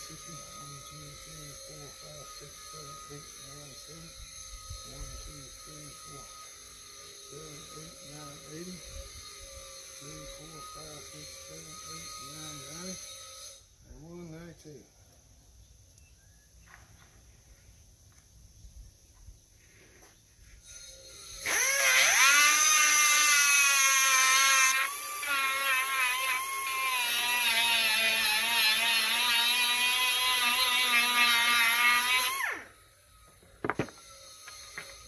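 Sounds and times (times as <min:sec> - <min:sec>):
small electric power tool whining: 0:00.0 - 0:14.4, 0:20.4 - 0:35.0.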